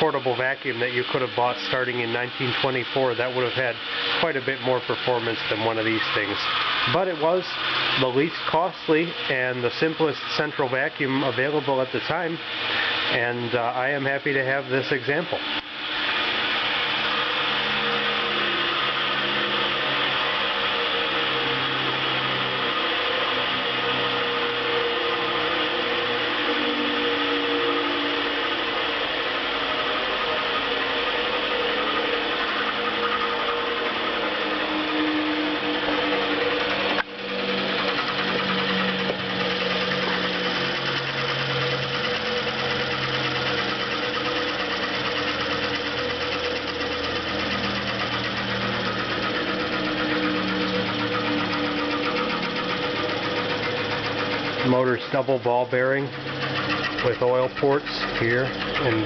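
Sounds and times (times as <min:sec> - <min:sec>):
vacuum cleaner motor humming: 0:00.0 - 0:59.0.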